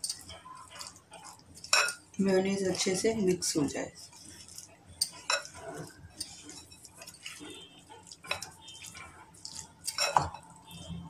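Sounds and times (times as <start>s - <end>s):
spatula stirring wet filling: 0.0s - 11.0s.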